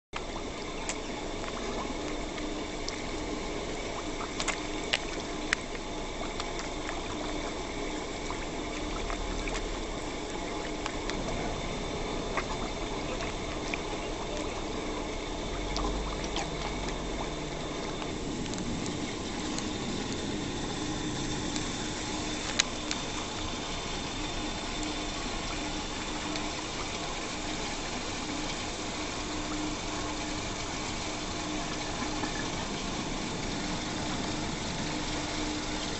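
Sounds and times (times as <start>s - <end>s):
fish splashing at the surface: 0.2s - 35.9s
pond water sloshing: 0.2s - 35.9s.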